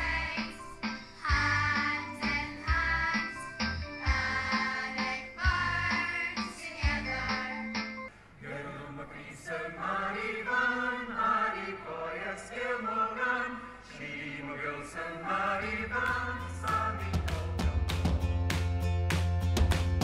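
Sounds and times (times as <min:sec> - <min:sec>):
choir singing: 0:00.0 - 0:07.8, 0:08.4 - 0:17.6.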